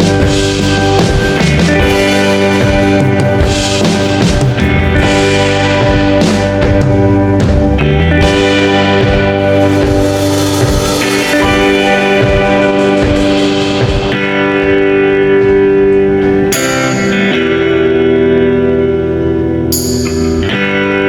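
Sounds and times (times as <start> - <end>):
guitar background music: 0.0 - 21.0.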